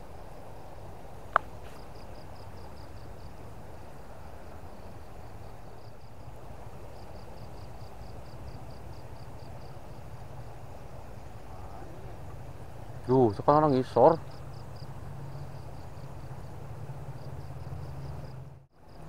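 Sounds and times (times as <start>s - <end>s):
insect chirping in high pulses: 0.0s - 19.0s.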